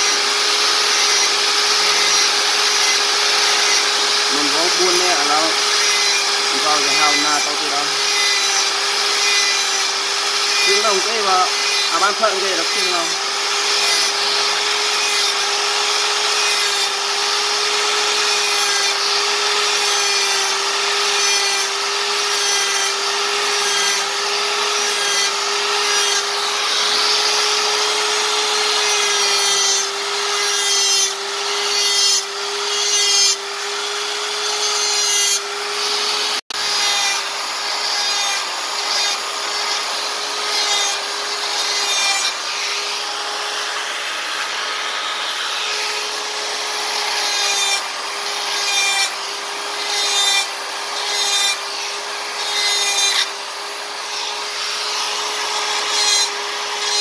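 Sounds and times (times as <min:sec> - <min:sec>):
rotary carving tool grinding wood: 0:00.0 - 0:57.0.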